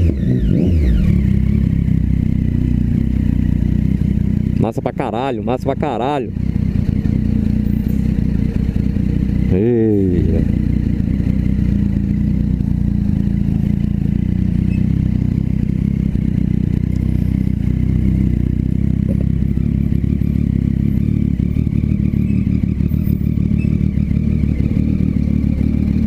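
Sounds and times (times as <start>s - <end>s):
motorcycle engine with loud exhaust: 0.0s - 26.0s.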